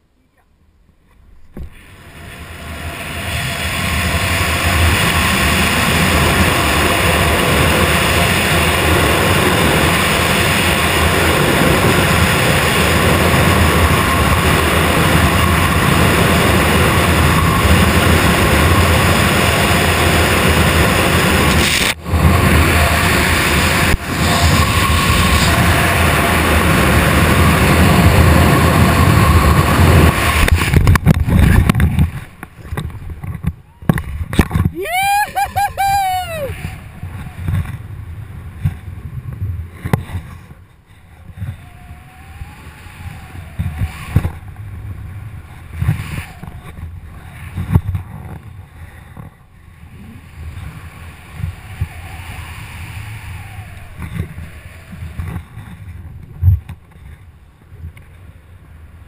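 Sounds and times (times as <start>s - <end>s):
wind buffeting microphone: 1.5s - 59.0s.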